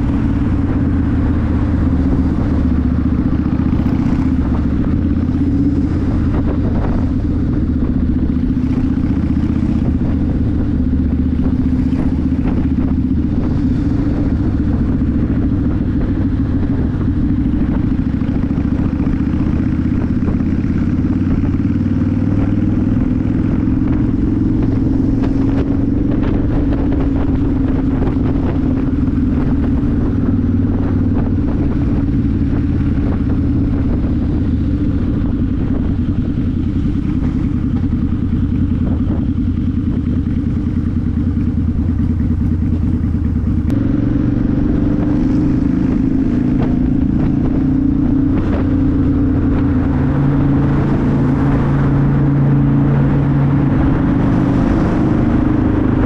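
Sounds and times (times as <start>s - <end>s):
motorcycle engine running: 0.0s - 56.0s
wind noise: 0.0s - 56.0s.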